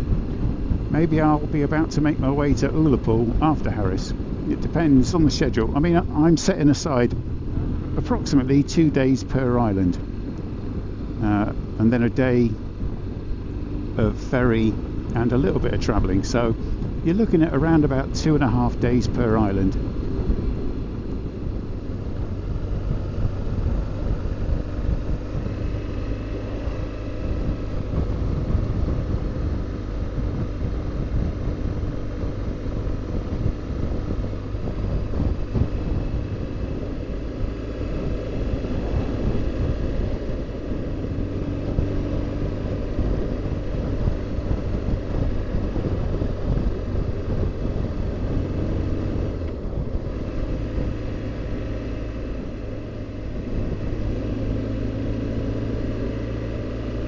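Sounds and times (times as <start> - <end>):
motorcycle engine cruising: 0.0 - 57.0
road noise: 0.0 - 57.0.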